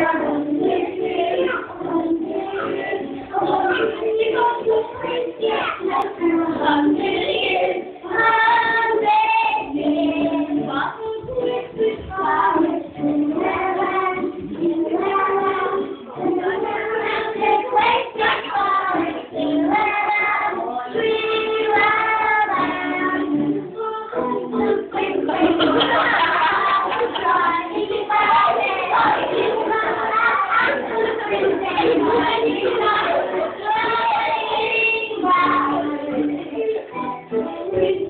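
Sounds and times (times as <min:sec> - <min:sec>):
young children singing: 0:00.0 - 0:38.0.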